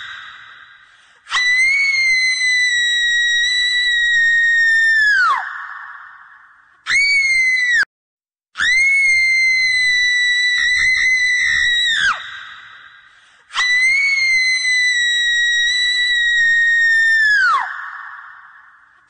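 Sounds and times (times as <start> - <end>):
high-pitched screams: 1.3 - 7.9, 8.6 - 12.8, 13.5 - 18.9.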